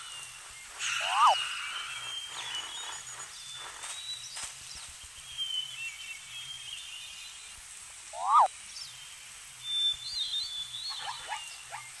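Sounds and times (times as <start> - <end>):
faint high bird chirps: 0.0 - 7.4, 9.6 - 12.0
steady background hiss: 0.0 - 12.0.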